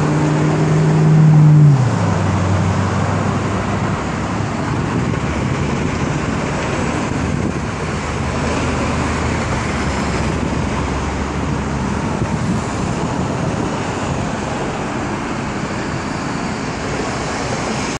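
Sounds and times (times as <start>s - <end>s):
passing cars: 0.0s - 17.9s.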